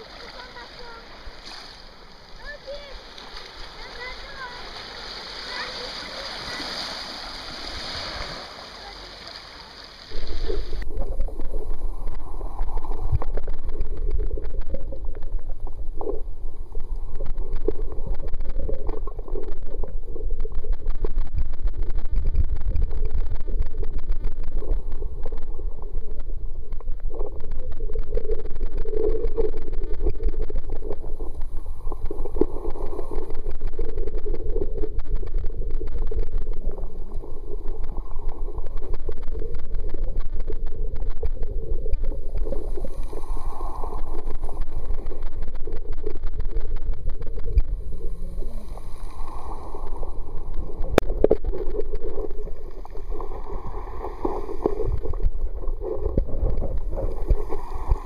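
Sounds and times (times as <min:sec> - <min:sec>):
faint crackling: 0:00.0 - 0:58.0
underwater rush of water: 0:00.0 - 0:58.0.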